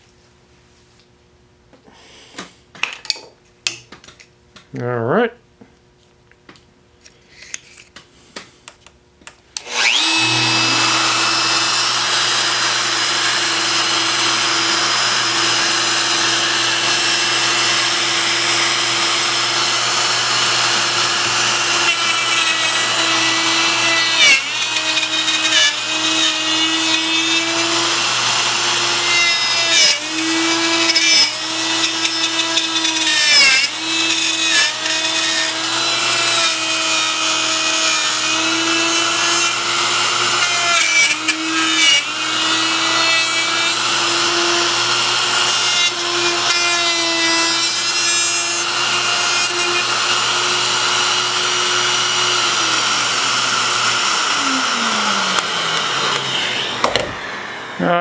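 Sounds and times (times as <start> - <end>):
router cutting wood: 9.6 - 58.0.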